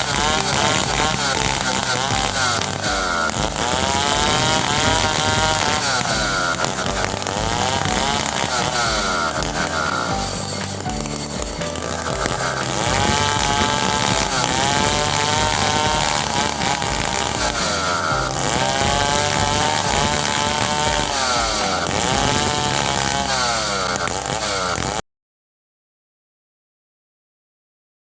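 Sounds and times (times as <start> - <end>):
chainsaw sawing wood: 0.0 - 25.0.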